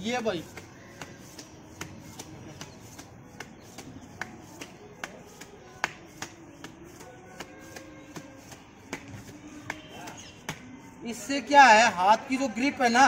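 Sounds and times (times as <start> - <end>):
hands slapping tree trunk: 0.2 - 10.8.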